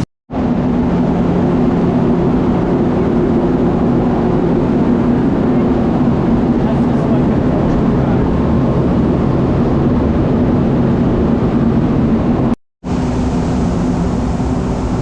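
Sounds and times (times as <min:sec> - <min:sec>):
heavy farm machinery droning: 0:00.3 - 0:15.0.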